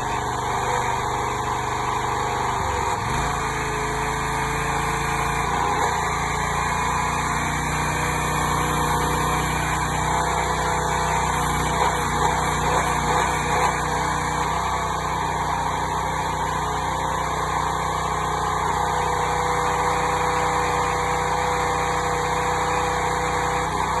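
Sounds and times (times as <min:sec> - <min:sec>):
small gasoline engine running: 0:00.0 - 0:24.0.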